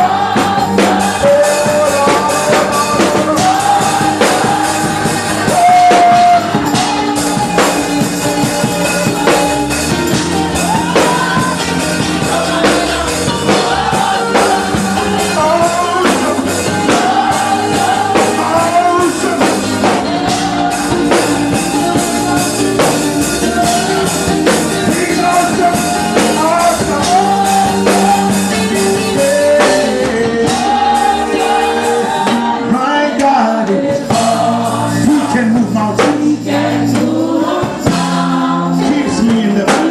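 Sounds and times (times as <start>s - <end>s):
band playing a steady beat: 0.0s - 39.9s
person singing: 0.0s - 39.9s.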